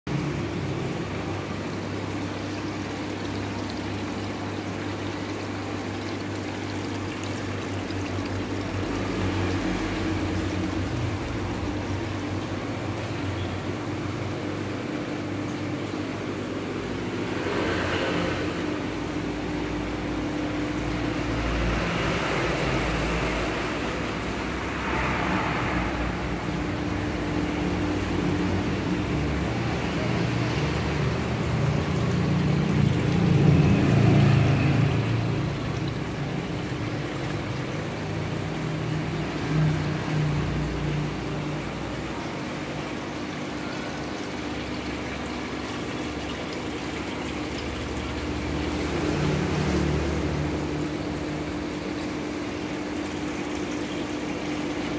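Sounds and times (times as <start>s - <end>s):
aquarium pump humming: 0.0s - 54.9s
circulating water washing: 0.0s - 54.9s.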